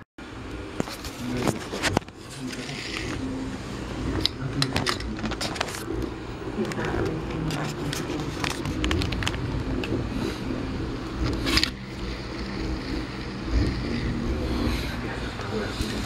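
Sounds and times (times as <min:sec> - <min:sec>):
motor wheel humming: 0:02.2 - 0:16.0.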